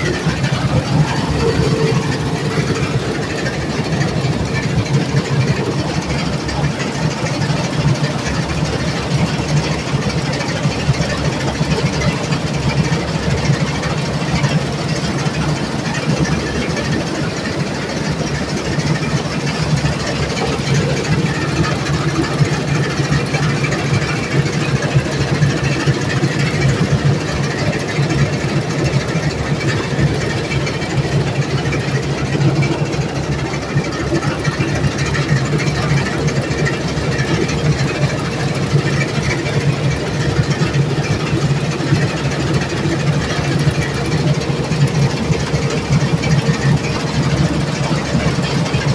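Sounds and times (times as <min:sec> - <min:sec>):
combine harvester working: 0:00.0 - 0:48.9.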